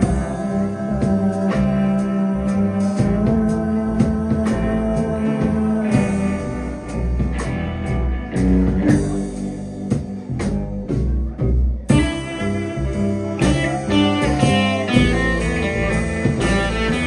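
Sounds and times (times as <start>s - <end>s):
rock band playing instrumental: 0.0s - 17.0s.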